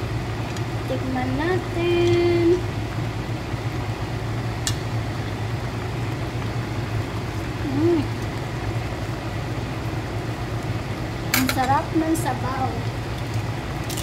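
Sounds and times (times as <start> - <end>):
pot simmering hiss: 0.0 - 14.0
steady low hum: 0.0 - 14.0.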